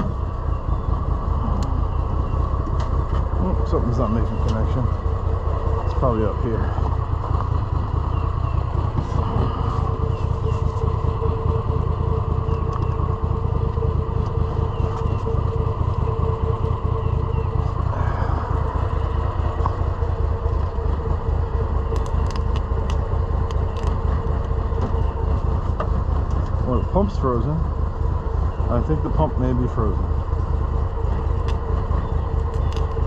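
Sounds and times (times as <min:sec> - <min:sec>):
utility vehicle engine idling: 0:00.0 - 0:33.0.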